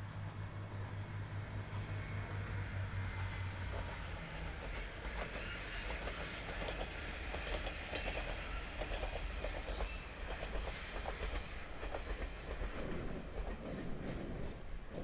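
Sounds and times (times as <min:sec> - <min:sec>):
diesel railcar rumble: 0:00.0 - 0:15.0.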